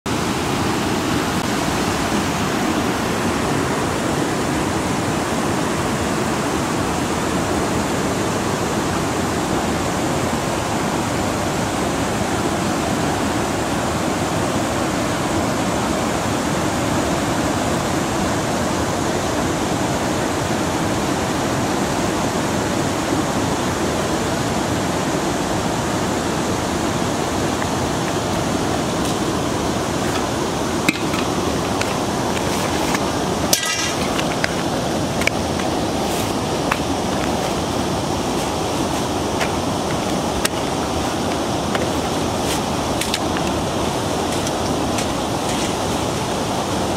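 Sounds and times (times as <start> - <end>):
river water pouring over weir: 0.1 - 46.9.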